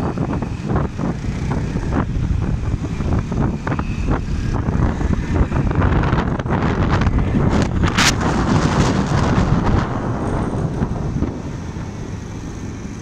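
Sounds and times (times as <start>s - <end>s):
motorcycle engine at speed: 0.0s - 13.0s
wind buffeting on microphone: 0.0s - 13.0s.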